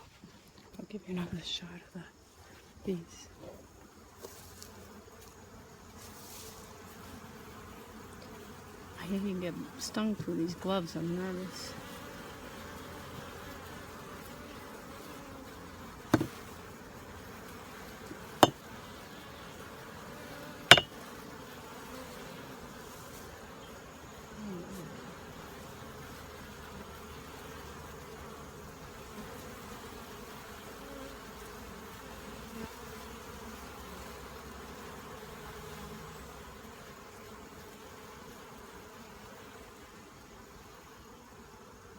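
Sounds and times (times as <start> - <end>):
honeybees buzzing: 2.9 - 41.9.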